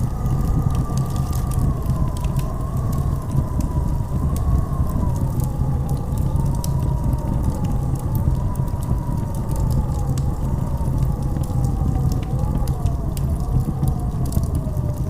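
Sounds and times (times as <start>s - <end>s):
howling blizzard wind: 0.0s - 15.0s
light crackles: 0.0s - 15.0s.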